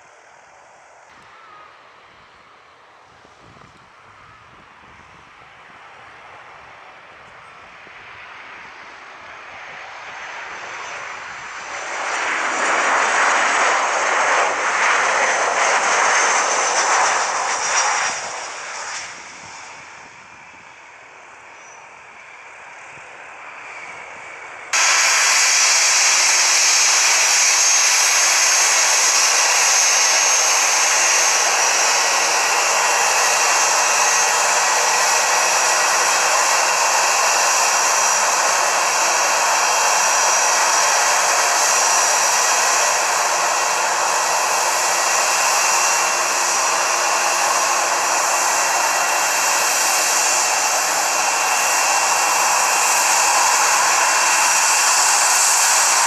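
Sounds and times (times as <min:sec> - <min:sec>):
jet engines hissing and whistling: 0:00.0 - 0:56.0.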